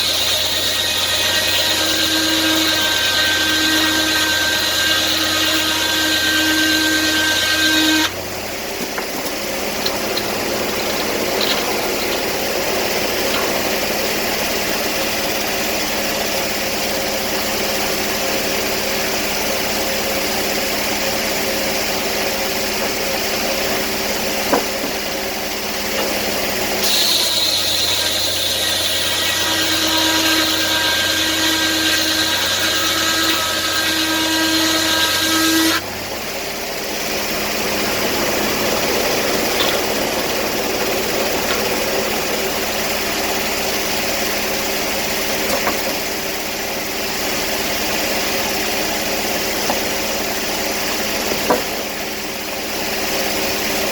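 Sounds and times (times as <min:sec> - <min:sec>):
sawmill engine and saw running: 0:00.0 - 0:53.9.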